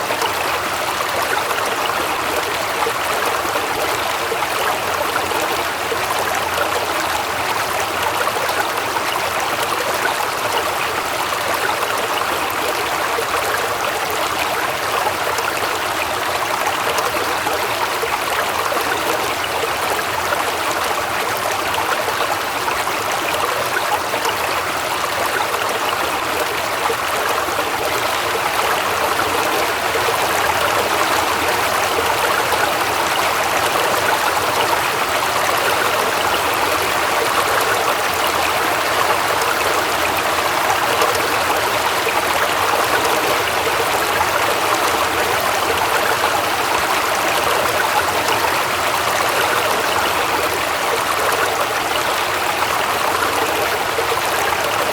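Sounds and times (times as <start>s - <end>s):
waterfall rushing water: 0.0s - 54.9s.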